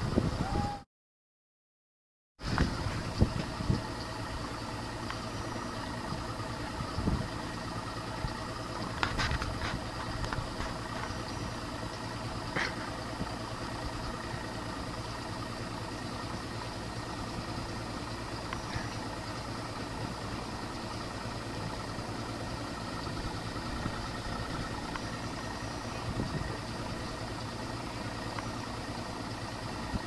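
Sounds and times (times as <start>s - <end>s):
engine idling: 0.0s - 0.8s, 2.4s - 30.0s.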